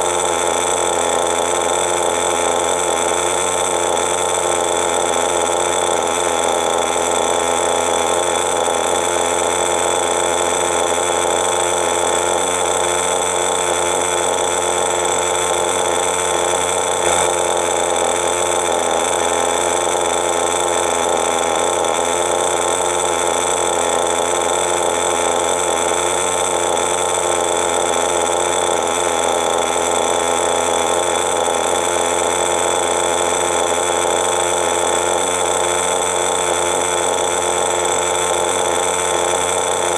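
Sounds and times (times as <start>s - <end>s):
model engine running steadily: 0.0s - 39.9s.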